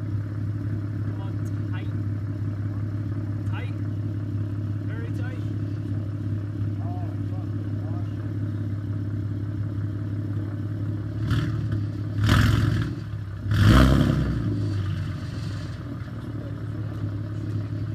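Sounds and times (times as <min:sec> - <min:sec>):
car engine idling and revving: 0:00.0 - 0:17.9.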